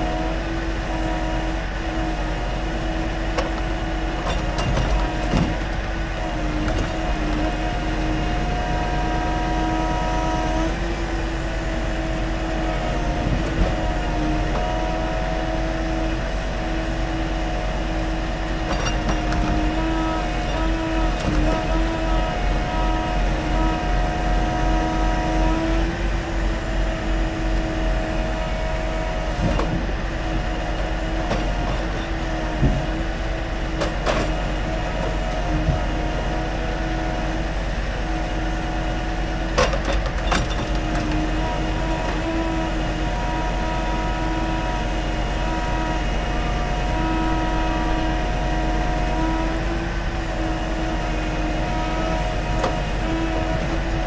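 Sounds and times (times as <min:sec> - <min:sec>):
hydraulic pump hum and whine: 0:00.0 - 0:54.0.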